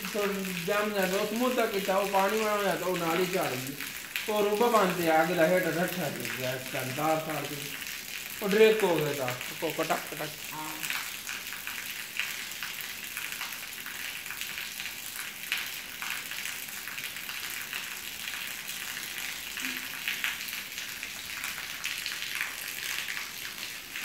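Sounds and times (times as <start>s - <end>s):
light rain on concrete: 0.0s - 24.0s.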